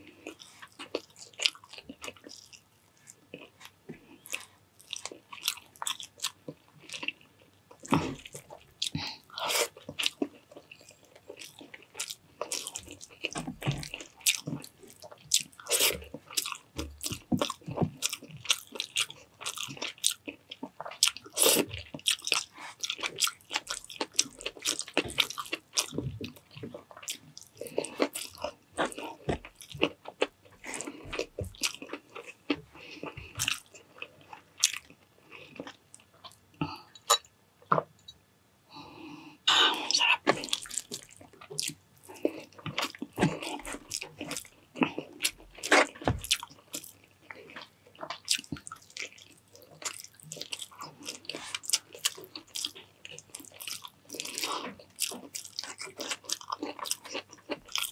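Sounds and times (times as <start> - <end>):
person chewing crunchy food: 0.0 - 37.9, 39.5 - 57.9.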